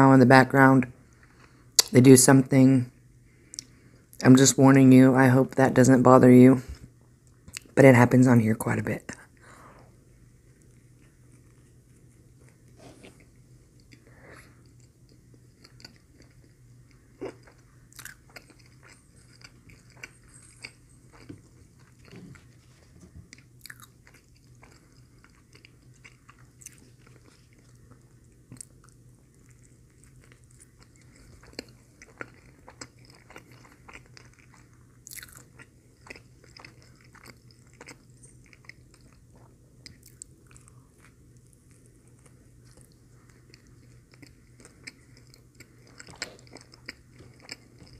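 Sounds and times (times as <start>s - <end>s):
faint low hum: 0.0s - 47.9s
person chewing a sandwich: 3.4s - 4.2s, 10.2s - 47.9s.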